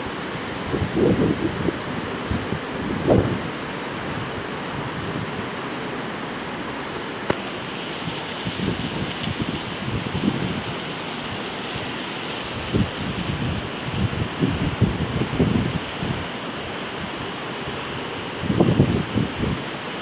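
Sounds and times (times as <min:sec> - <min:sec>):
wind gusting against microphone: 0:00.0 - 0:05.6, 0:07.3 - 0:20.0
heavy rain pouring: 0:00.0 - 0:20.0.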